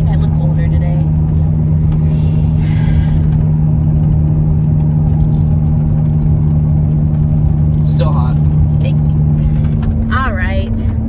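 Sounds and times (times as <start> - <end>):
car cabin rumble and hum: 0.0 - 11.0.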